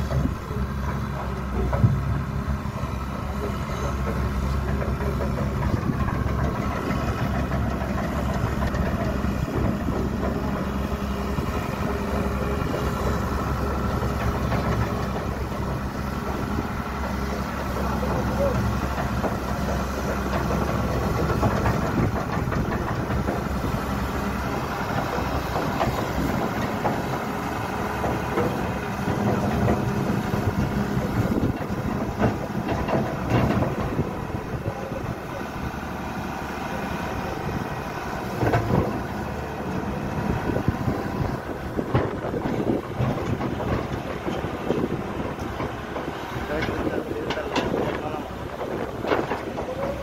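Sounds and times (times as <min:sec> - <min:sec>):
excavator diesel engine running: 0:00.0 - 0:50.0
steel tracks clanking: 0:03.0 - 0:50.0.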